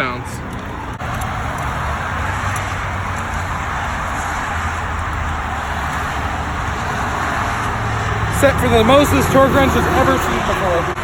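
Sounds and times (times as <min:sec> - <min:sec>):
highway traffic rushing: 0:00.0 - 0:11.0
tyres on road: 0:00.0 - 0:11.0.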